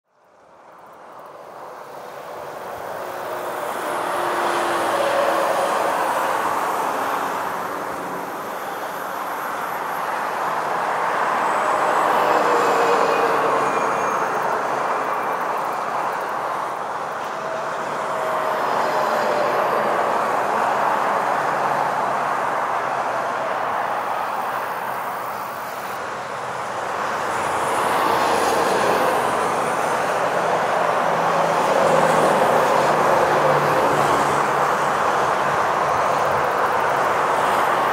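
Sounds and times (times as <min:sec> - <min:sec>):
road traffic passing: 0:00.1 - 0:37.9.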